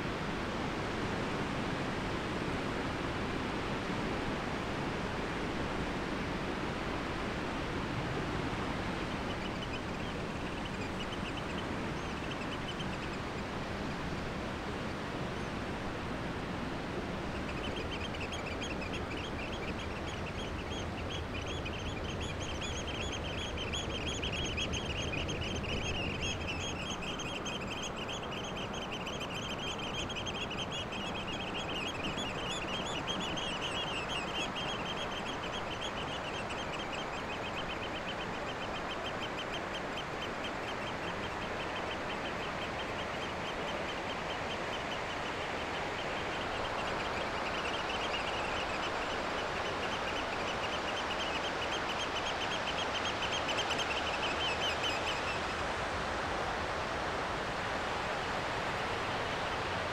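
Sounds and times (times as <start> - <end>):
wind and water hiss: 0.0 - 59.9.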